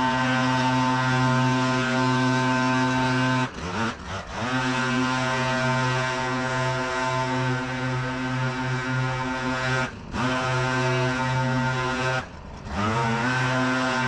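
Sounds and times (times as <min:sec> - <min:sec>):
leaf vacuum engine running: 0:00.0 - 0:14.0.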